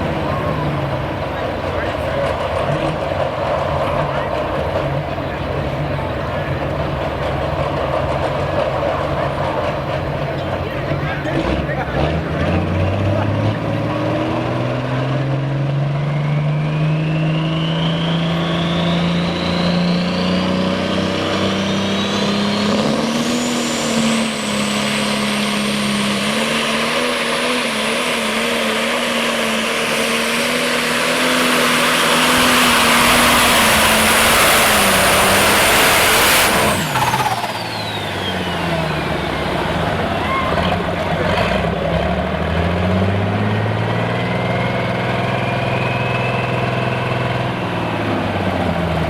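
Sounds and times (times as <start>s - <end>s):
turbo whine: 0.0s - 42.4s, 43.4s - 49.0s
tractor diesel engine at full power: 0.0s - 49.0s.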